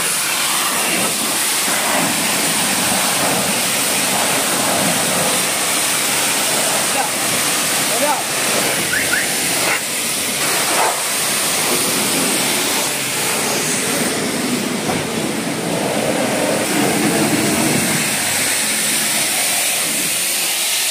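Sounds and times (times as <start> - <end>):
pressure washer hissing and rumbling: 0.0 - 20.9.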